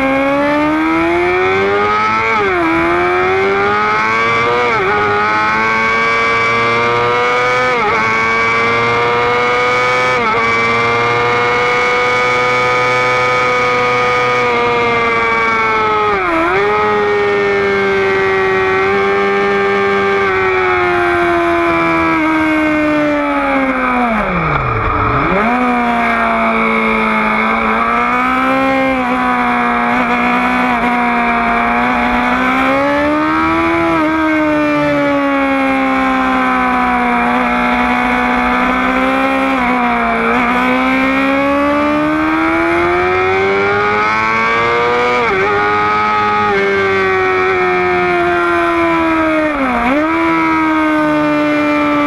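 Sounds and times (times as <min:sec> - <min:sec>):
motorcycle engine at high revs: 0:00.0 - 0:52.0.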